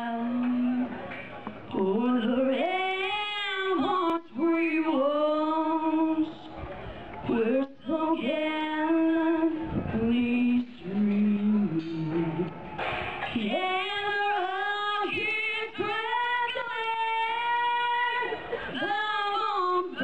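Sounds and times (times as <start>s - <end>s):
woman singing an anthem: 0.0s - 1.0s, 1.7s - 6.5s, 7.2s - 12.5s, 13.2s - 20.0s.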